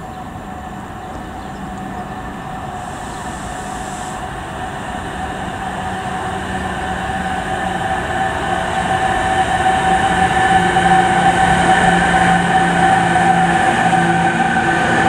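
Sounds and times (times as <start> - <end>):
electric locomotive whine: 0.0 - 15.0
train wheels rolling: 0.0 - 15.0.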